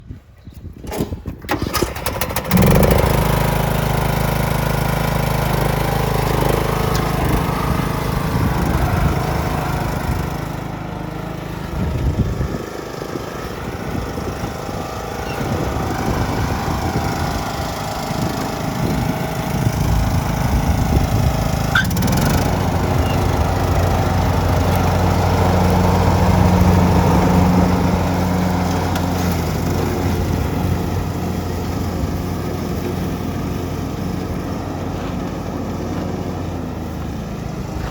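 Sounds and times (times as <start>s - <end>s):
lawn mower engine cranking: 0.8s - 37.9s
lawn mower engine running: 0.8s - 37.9s.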